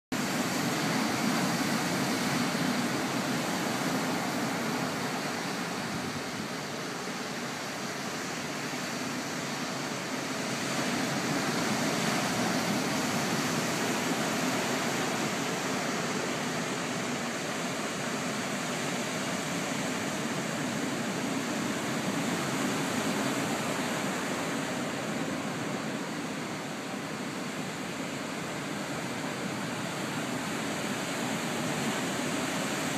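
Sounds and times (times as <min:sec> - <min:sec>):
ocean surf breaking: 0:00.2 - 0:32.9.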